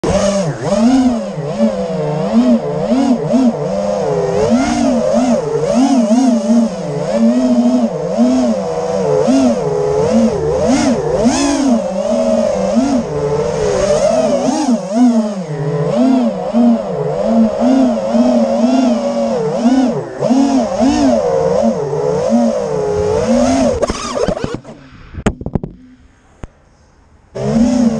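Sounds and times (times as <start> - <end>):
quadcopter motors whining: 0.0 - 26.7, 27.3 - 27.9.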